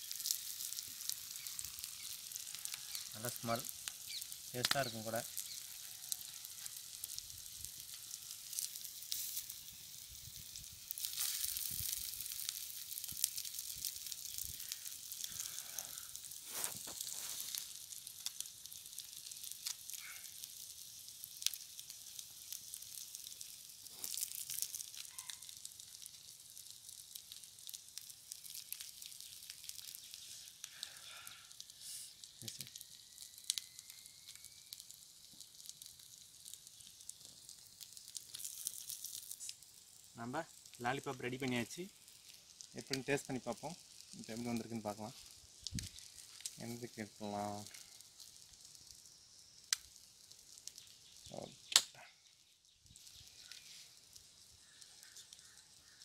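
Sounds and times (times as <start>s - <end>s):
oil sizzling with crackles: 0.0s - 56.0s.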